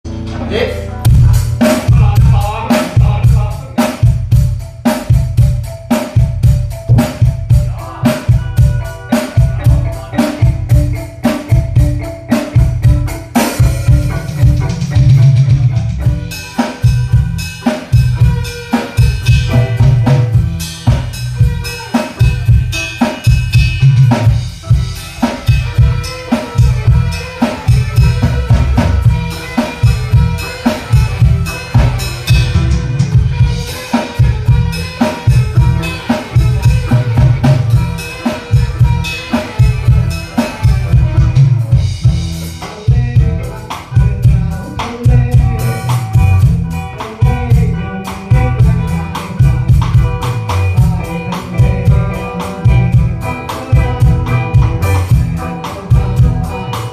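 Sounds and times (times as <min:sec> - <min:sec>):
instrumental band music: 0:00.0 - 0:56.9
bass drum and snare beat: 0:01.0 - 0:56.9.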